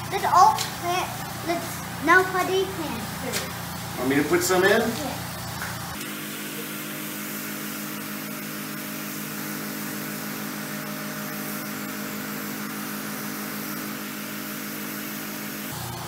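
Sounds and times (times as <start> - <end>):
motor droning hum: 0.0 - 16.0.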